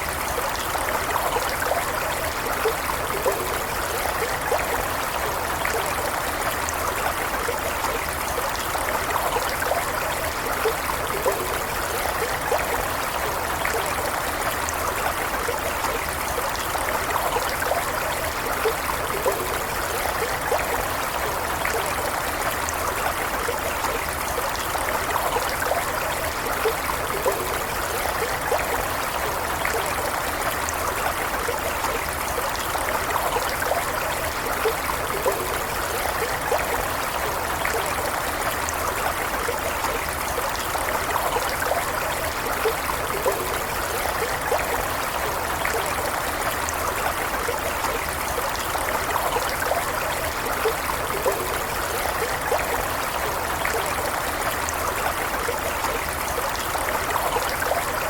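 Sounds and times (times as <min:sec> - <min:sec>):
stream water flowing: 0:00.0 - 0:58.0
water gurgling: 0:00.0 - 0:58.0.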